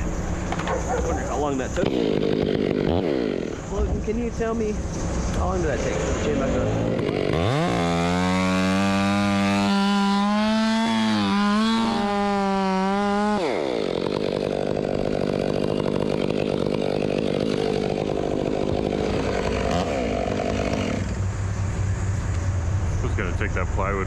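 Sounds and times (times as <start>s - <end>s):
chainsaw revving: 0.4s - 4.0s, 5.4s - 21.3s.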